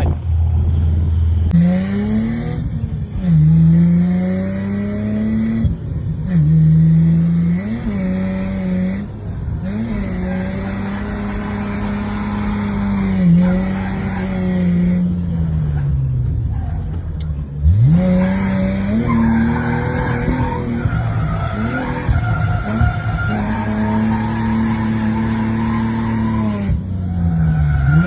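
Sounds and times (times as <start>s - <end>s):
car engine revving hard: 1.5s - 15.1s, 17.6s - 26.8s.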